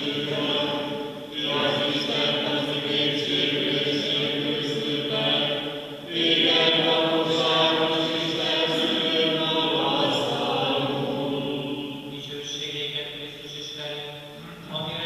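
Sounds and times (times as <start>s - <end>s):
choir chanting: 0.0s - 12.4s.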